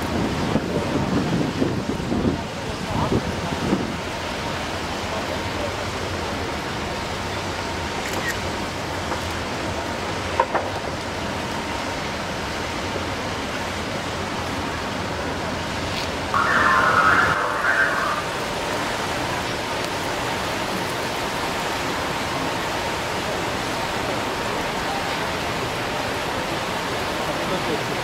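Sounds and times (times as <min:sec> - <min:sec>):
rushing water burst: 0:00.0 - 0:28.0
water pouring and splashing: 0:00.0 - 0:28.0.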